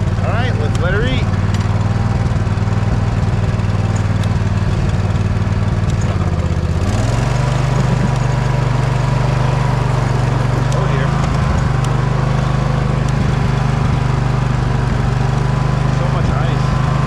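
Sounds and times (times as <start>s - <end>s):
riding mower engine running: 0.0s - 17.0s.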